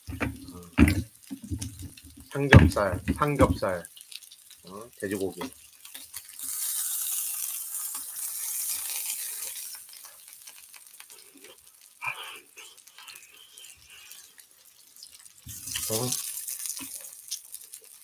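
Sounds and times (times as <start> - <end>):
meat sizzling on a grill pan: 0.0 - 18.0.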